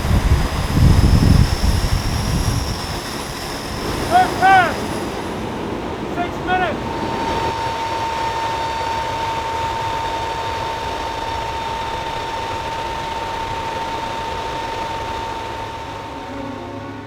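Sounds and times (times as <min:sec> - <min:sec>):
aircraft engine noise in cabin: 0:00.0 - 0:17.0
constant whine: 0:00.0 - 0:17.0.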